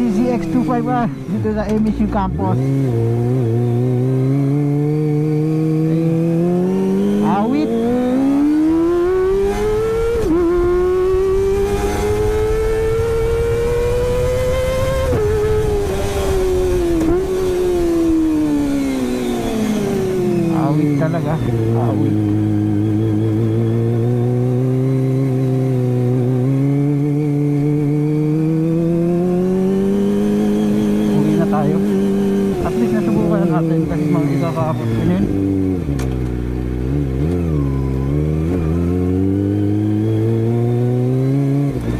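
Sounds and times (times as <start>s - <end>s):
motorcycle engine screaming at high revs: 0.0s - 41.9s.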